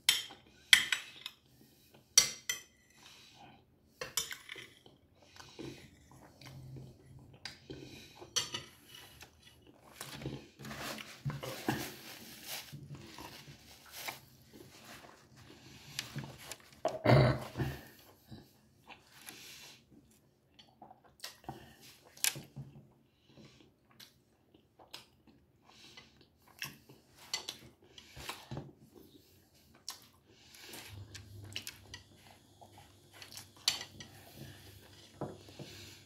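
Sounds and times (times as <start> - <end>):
man chewing food: 2.9 - 36.0.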